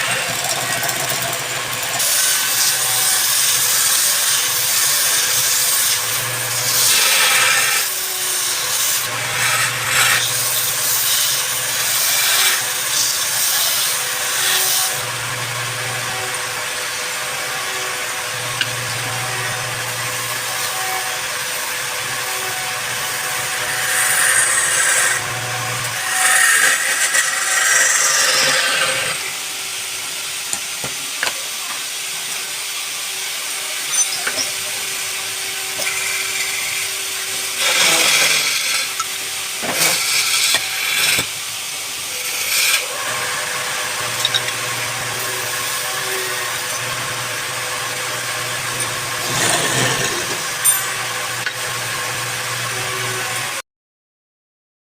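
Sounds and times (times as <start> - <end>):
woodworking power tool cutting wood: 0.0 - 53.6.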